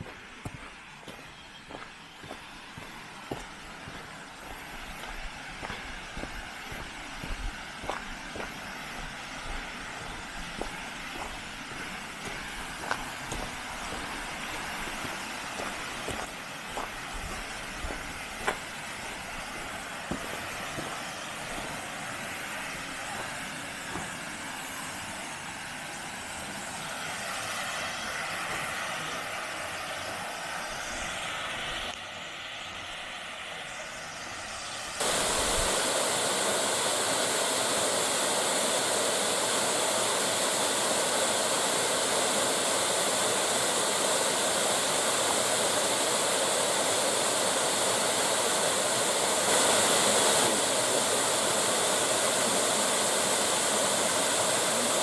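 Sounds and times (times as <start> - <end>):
waterfall rushing: 2.3 - 31.9, 34.5 - 55.0.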